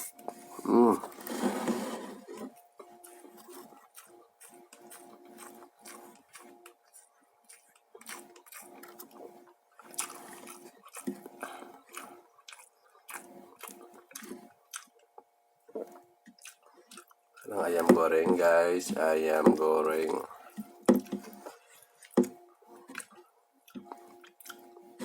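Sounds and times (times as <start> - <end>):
person chewing and smacking: 0.0 - 25.0.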